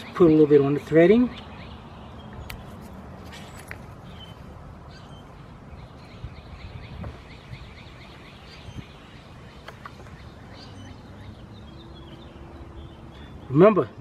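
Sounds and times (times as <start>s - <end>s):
bird chirping trill: 0.0s - 2.8s, 3.4s - 14.0s.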